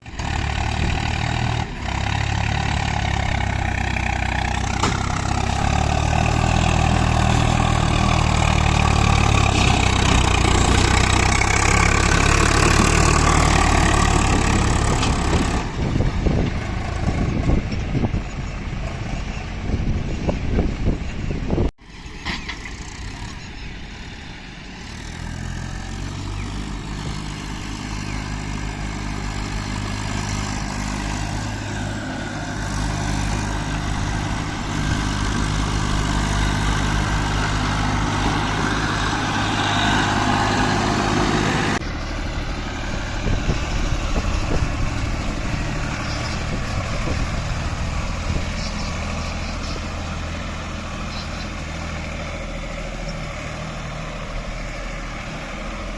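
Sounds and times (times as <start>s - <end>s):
heavy diesel engine droning: 0.0s - 55.9s
quieter engine running: 0.0s - 55.9s.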